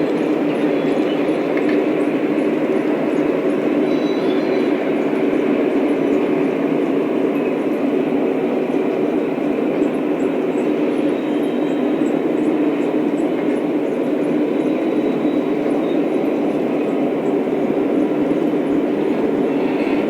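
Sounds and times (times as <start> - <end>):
model trains rumbling on track: 0.0 - 20.0.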